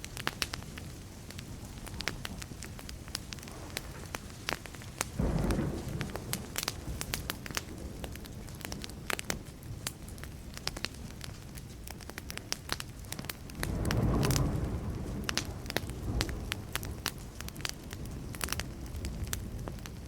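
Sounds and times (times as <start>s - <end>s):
wood fire crackling: 0.0s - 20.0s
distant thunder rumble: 0.8s - 11.2s, 13.2s - 20.0s.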